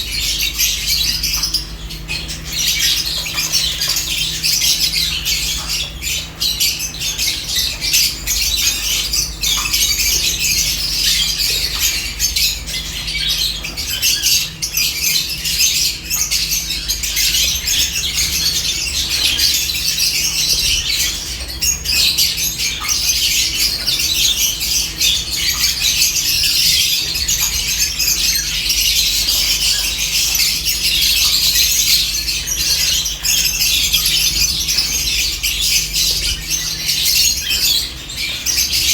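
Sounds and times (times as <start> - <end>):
lovebirds chattering and squawking: 0.0 - 38.9.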